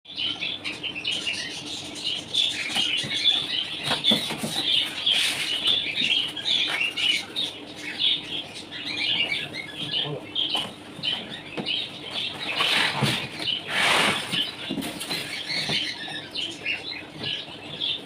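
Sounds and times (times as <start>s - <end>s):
small birds chirping: 0.1s - 18.0s
steady low hum: 0.1s - 18.0s.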